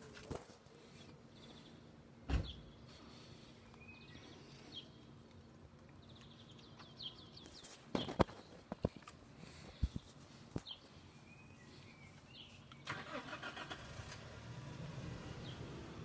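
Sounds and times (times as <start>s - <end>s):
small birds chirping: 0.7s - 13.0s, 15.3s - 16.0s.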